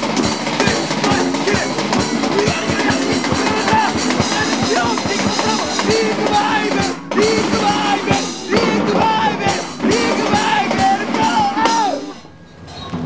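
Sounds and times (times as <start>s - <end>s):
rock band with singer: 0.0s - 12.4s.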